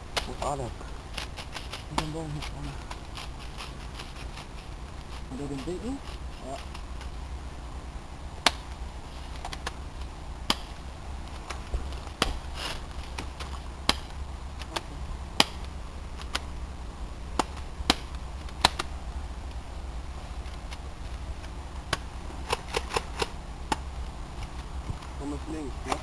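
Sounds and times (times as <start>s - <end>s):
low rumble of microphone handling: 0.0s - 26.0s.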